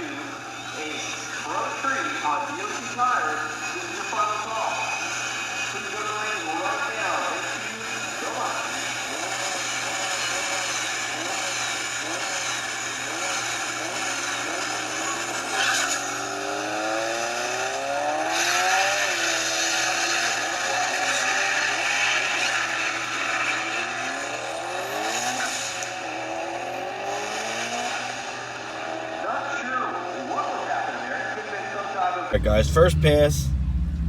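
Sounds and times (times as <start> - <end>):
drag race cars accelerating: 0.0 - 34.0.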